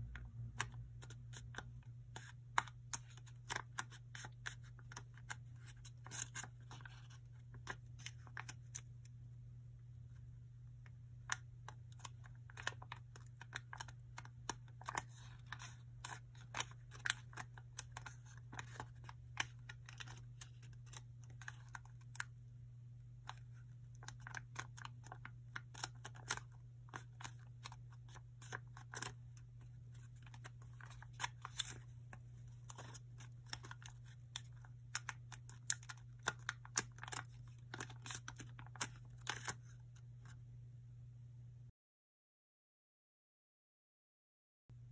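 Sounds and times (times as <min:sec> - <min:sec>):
paper crinkling while folded: 0:00.1 - 0:09.2, 0:11.2 - 0:22.4, 0:23.2 - 0:40.4.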